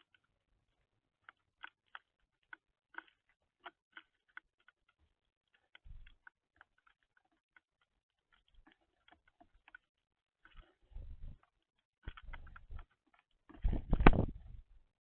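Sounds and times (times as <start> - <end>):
birds pecking at seed: 0.0 - 14.4.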